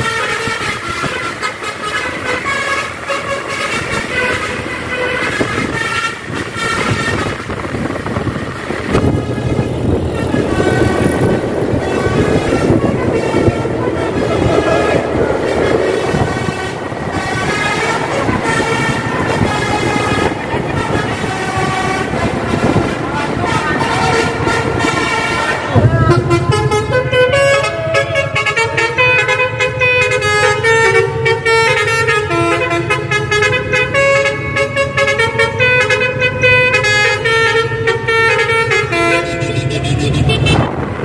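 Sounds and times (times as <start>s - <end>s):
bus horn playing a tune: 0.0s - 41.0s
road noise rushing: 0.0s - 41.0s.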